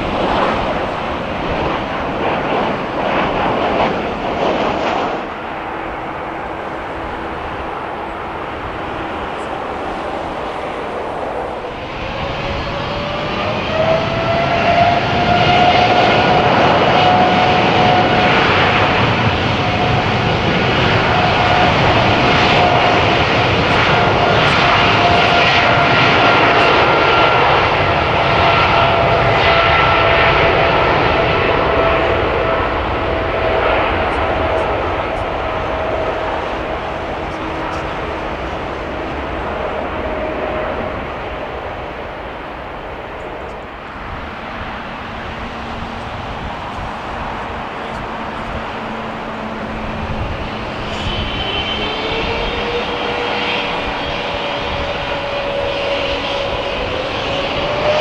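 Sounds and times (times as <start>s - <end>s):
jet engine whine rising in pitch: 0.0s - 58.0s
jet engines rumbling: 0.0s - 58.0s.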